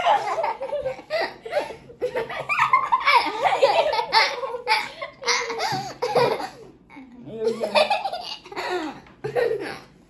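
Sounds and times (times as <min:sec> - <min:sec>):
children laughing: 0:00.0 - 0:06.8, 0:07.4 - 0:10.0.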